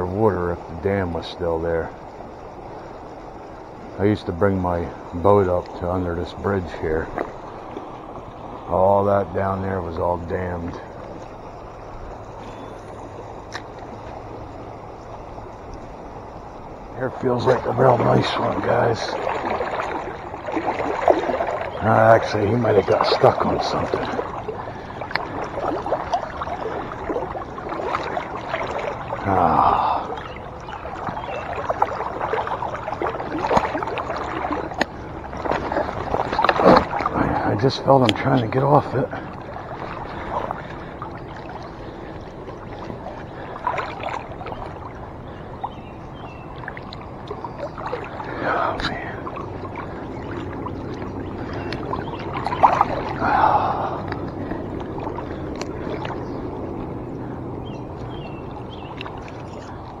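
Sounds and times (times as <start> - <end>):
shallow river gurgling and splashing: 0.0 - 60.0
water clicks: 0.0 - 60.0.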